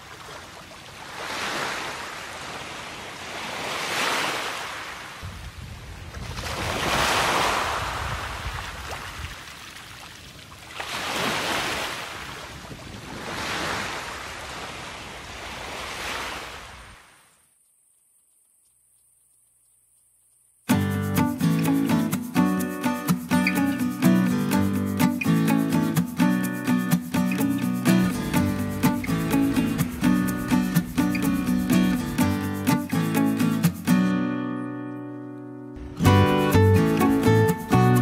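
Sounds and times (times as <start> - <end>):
ocean surf washing: 0.0 - 10.2, 10.8 - 17.2, 20.7 - 34.5, 35.8 - 38.0.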